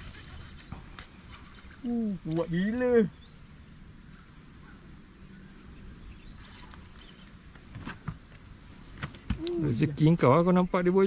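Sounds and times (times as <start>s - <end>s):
high-pitched insect drone: 0.0s - 11.0s
low rumbling hiss: 0.0s - 11.0s.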